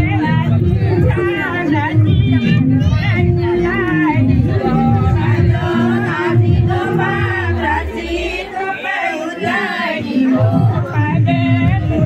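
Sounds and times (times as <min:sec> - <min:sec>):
crowd background noise: 0:00.0 - 0:12.0
person singing with music: 0:00.0 - 0:12.0.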